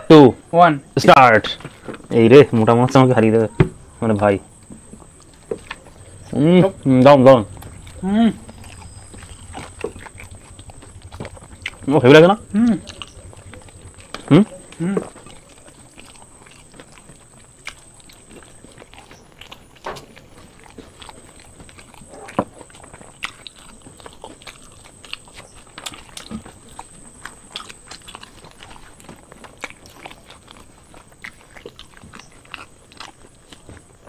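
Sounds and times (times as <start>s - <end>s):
people chewing food: 0.0s - 34.0s.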